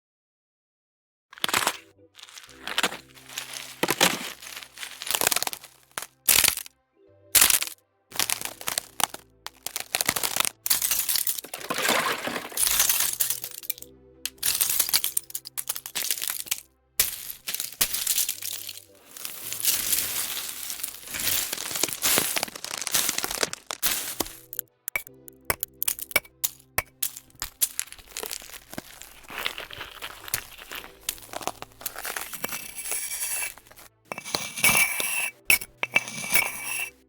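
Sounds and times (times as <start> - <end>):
ice cracking and crunching: 1.3 - 6.7, 7.4 - 37.0
quiet background music: 1.4 - 37.0.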